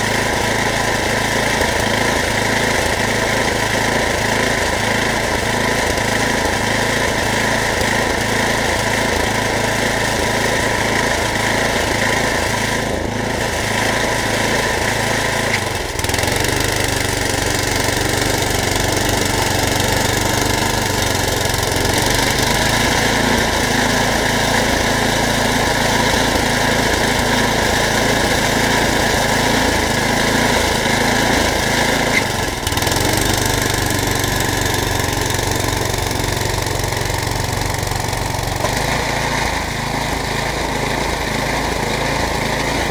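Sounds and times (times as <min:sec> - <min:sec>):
snowblower engine running: 0:00.0 - 0:42.9.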